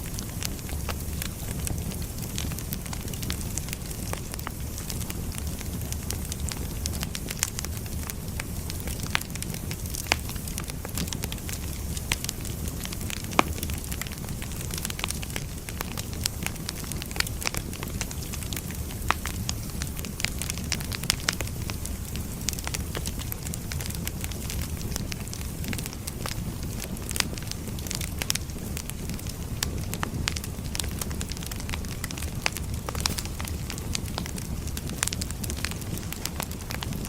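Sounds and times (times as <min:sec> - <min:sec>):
firewood crackling and popping: 0:00.0 - 0:37.0
wood fire rumbling: 0:00.0 - 0:37.0.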